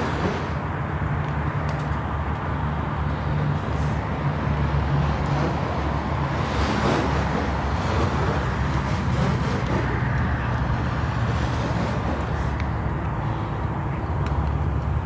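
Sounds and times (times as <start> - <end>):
low engine rumble: 0.0 - 15.0
rushing noise: 0.0 - 15.0.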